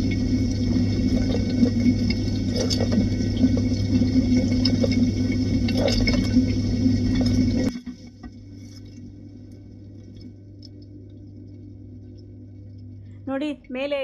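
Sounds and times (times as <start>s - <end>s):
dishwasher pump humming: 0.0s - 14.0s.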